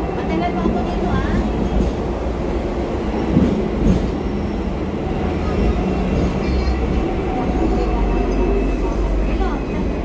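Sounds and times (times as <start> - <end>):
tram rumbling and rattling: 0.0 - 10.0.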